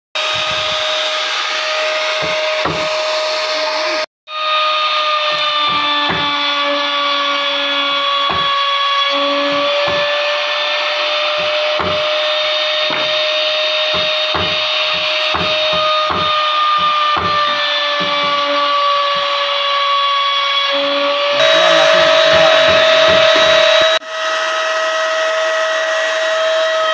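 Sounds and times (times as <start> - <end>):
router whining: 0.2 - 24.4.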